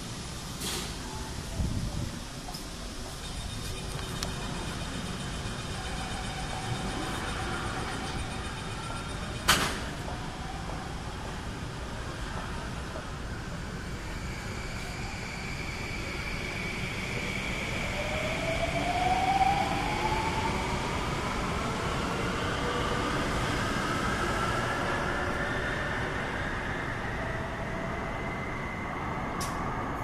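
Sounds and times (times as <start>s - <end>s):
metro train rumble and rail noise: 0.0s - 30.0s
train passing alongside: 0.0s - 30.0s.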